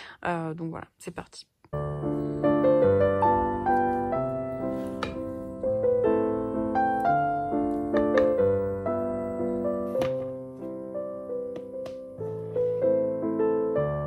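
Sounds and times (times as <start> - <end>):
slow piano music: 1.7 - 14.0.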